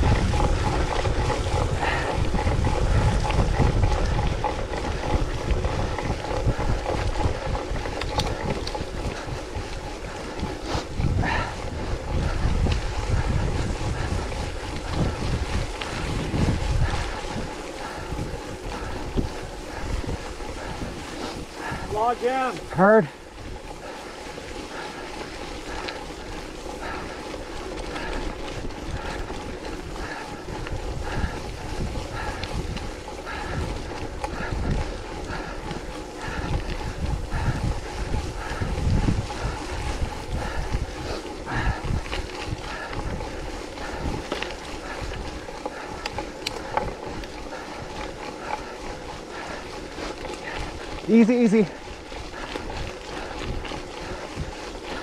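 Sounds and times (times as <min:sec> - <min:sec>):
bike rolling on muddy trail: 0:00.0 - 0:55.0
wind buffeting microphone: 0:00.0 - 0:55.0.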